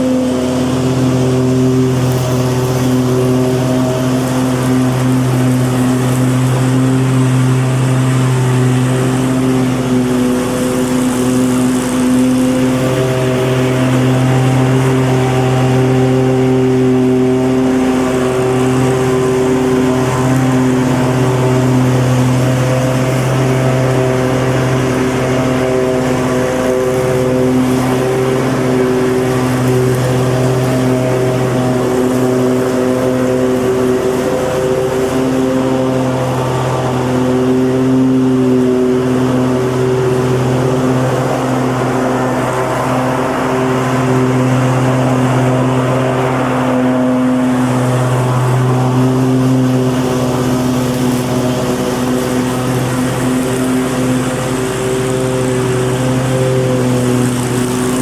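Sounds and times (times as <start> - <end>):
lawnmower engine running: 0.0 - 58.0.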